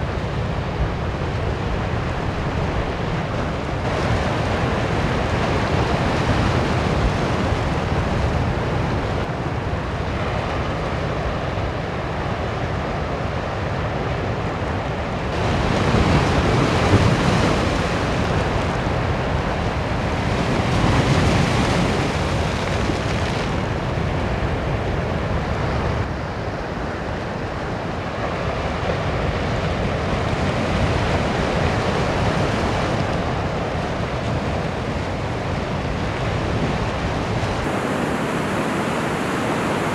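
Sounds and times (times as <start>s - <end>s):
sea surf breaking against rocks: 0.0s - 39.9s.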